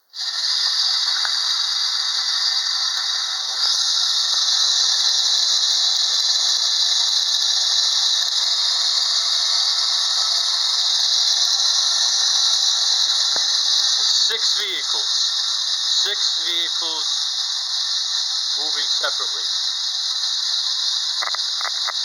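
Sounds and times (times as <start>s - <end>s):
clockwork toy motor whirring: 0.0s - 22.0s.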